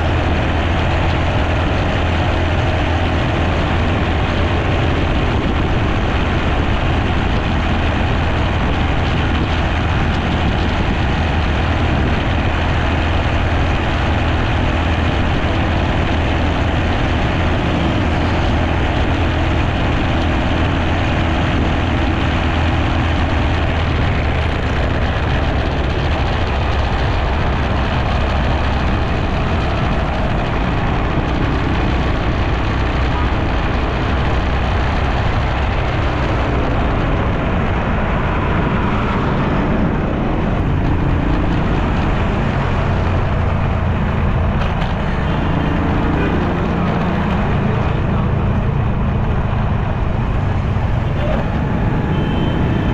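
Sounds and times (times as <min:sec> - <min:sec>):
motorcycle engine running: 0:00.0 - 0:52.9
wind on microphone: 0:00.0 - 0:52.9.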